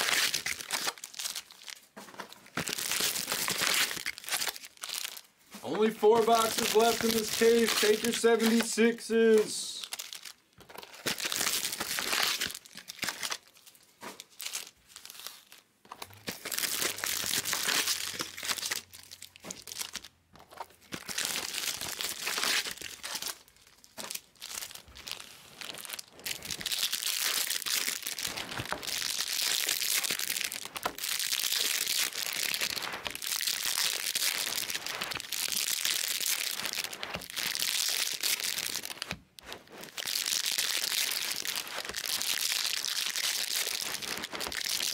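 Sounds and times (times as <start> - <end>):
foil packs crinkling: 0.0 - 44.9.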